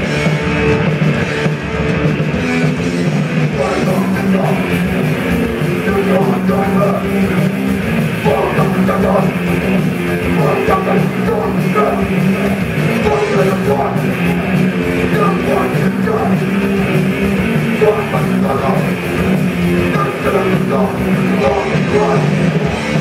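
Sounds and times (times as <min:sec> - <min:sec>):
drum kit: 0:00.0 - 0:23.0
electric guitar: 0:00.0 - 0:23.0
person singing: 0:03.5 - 0:07.6, 0:08.2 - 0:23.0.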